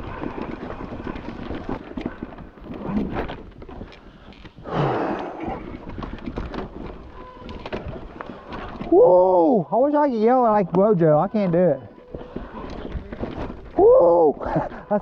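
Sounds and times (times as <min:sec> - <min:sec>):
bike rattling over rocks: 0:00.0 - 0:15.0.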